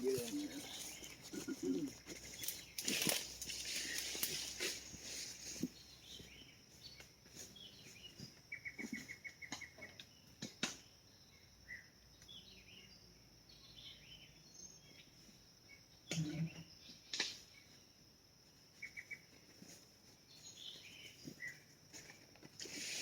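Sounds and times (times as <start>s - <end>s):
faint birdsong: 0.0s - 23.0s.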